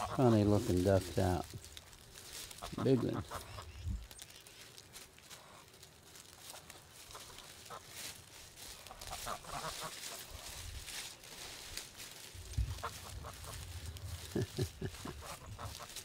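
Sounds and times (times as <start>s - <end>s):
geese honking: 0.0s - 1.4s, 2.3s - 3.8s, 5.2s - 16.0s.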